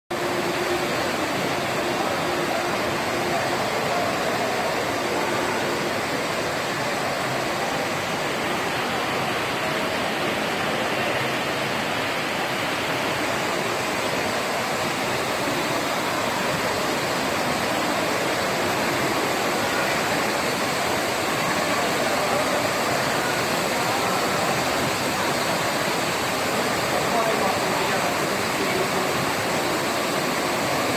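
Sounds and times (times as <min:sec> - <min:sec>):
fountain water splashing: 0:00.1 - 0:30.9.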